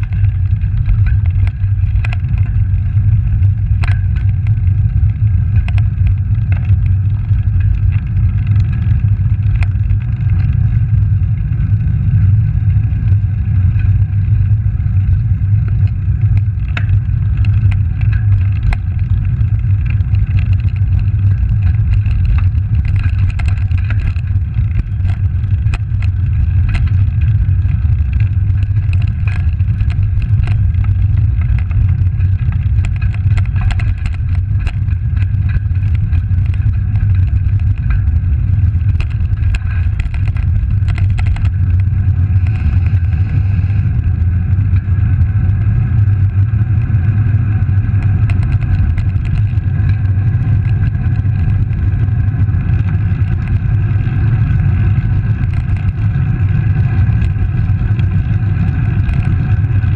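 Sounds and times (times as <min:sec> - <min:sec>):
bike rattling on rough road: 0:00.0 - 0:59.9
wind and road noise rumble: 0:00.0 - 0:59.9.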